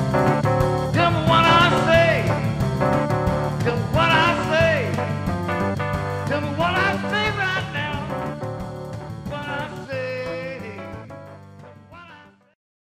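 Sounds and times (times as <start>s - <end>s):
song with sung melody and bass: 0.0s - 12.5s.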